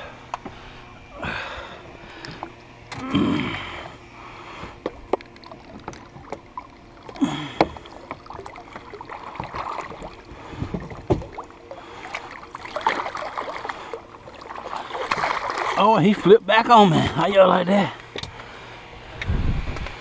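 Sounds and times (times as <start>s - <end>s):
water disturbed: 0.0s - 19.2s.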